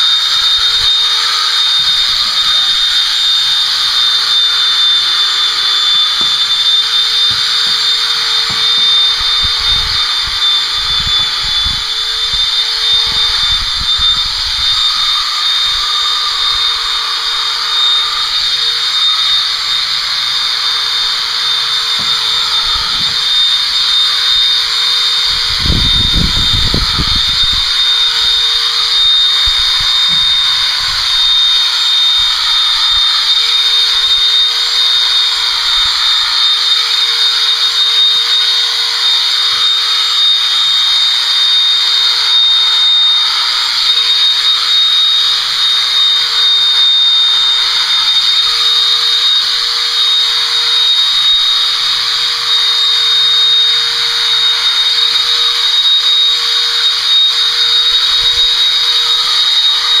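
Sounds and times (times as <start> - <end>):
electric clippers whining: 0.0 - 60.0.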